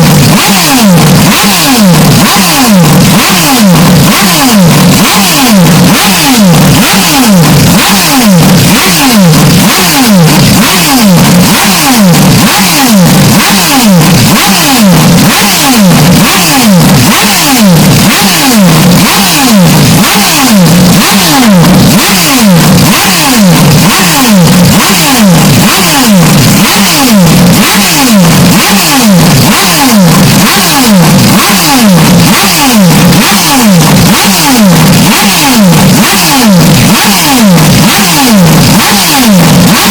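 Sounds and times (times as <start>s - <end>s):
distorted race car engine: 0.0s - 39.9s.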